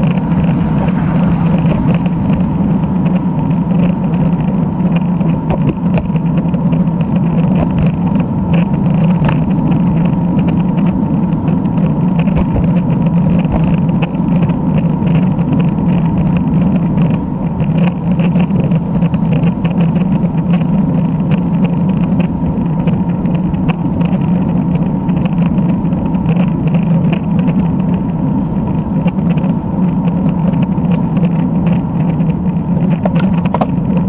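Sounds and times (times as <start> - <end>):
road noise: 0.0 - 34.0
wind rushing on microphone: 0.0 - 34.0.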